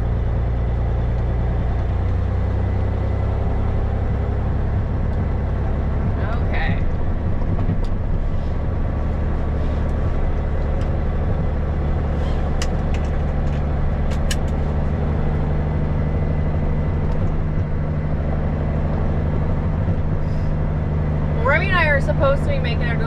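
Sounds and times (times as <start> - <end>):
road noise: 0.0 - 23.0
truck engine running: 0.0 - 23.0.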